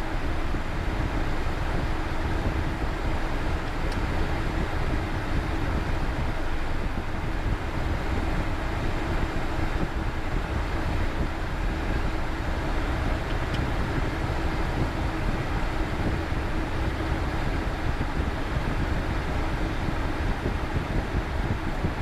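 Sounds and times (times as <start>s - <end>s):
faint steady hum: 0.0s - 22.0s
jet engines at taxi idle: 0.0s - 22.0s.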